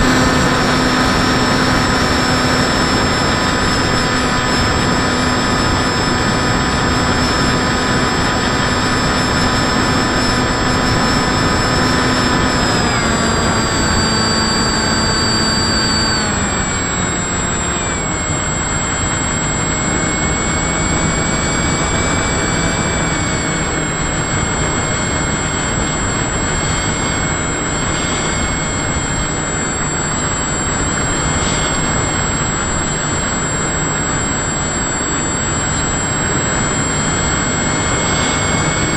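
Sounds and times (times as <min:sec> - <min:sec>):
model aircraft motor whine: 0:00.0 - 0:38.9
wind rush: 0:00.0 - 0:38.9.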